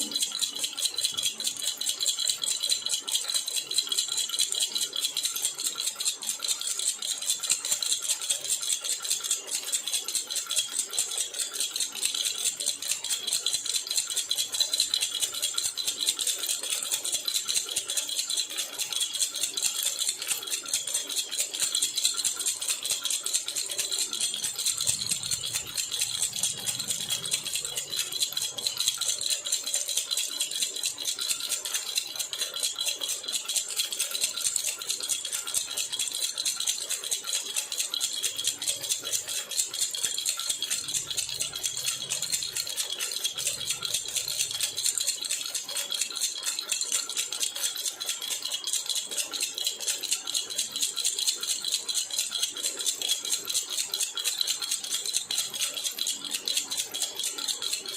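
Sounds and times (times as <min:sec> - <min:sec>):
metal baby rattle jingling: 0:00.0 - 0:57.9.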